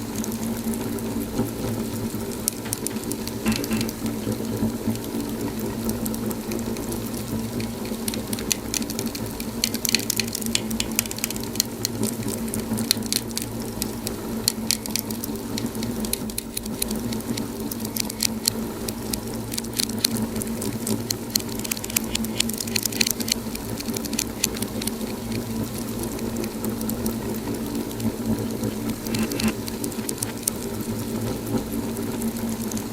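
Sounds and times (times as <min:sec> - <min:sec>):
steady low hum: 0:00.0 - 0:32.9
wood fire crackling: 0:00.0 - 0:32.9.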